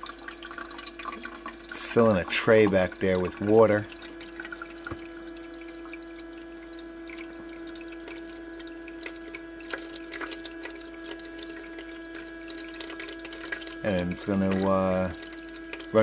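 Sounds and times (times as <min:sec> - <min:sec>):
ice maker humming: 0:00.0 - 0:16.0
water trickling and dripping: 0:00.0 - 0:16.0.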